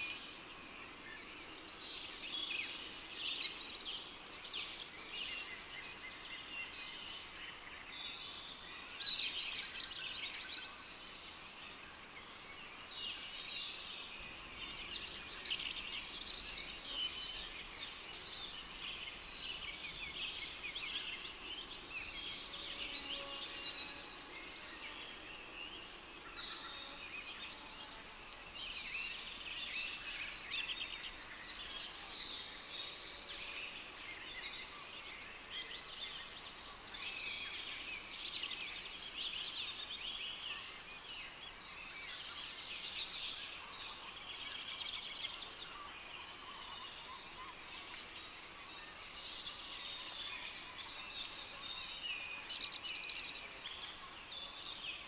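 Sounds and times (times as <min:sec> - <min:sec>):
insect chirping: 0:00.1 - 0:55.0.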